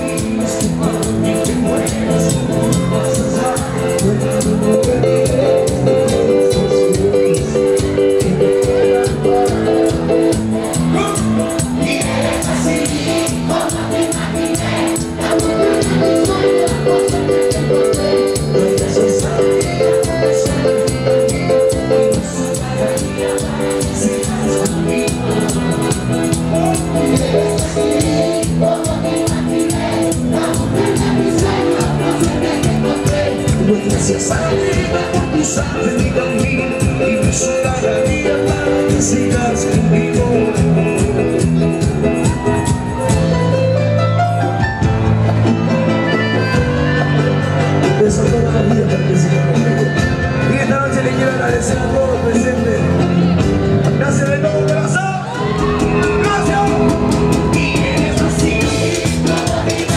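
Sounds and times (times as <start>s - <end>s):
live band music: 0.0s - 59.9s.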